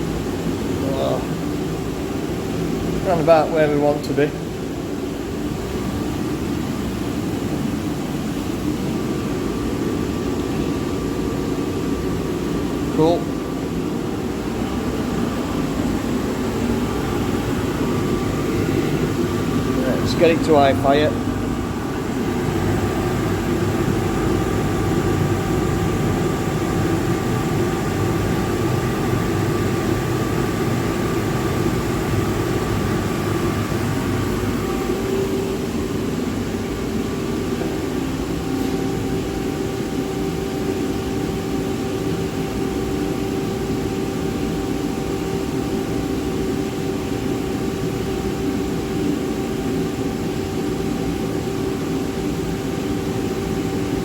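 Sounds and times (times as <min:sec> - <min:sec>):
boiler burner roaring: 0:00.0 - 0:54.0.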